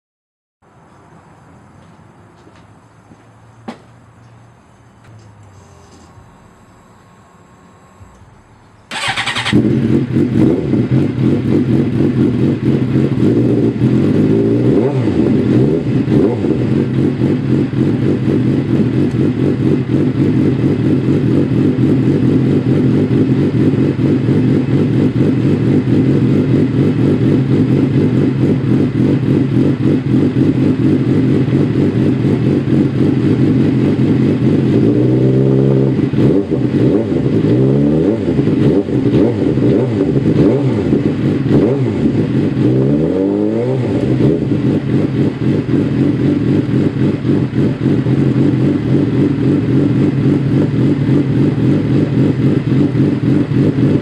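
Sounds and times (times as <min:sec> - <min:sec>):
motorcycle engine idling and revving: 0:02.4 - 0:54.0.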